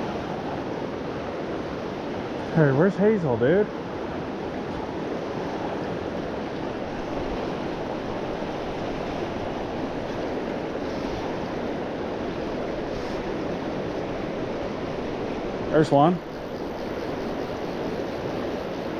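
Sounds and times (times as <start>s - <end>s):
river water rushing: 0.0s - 18.9s.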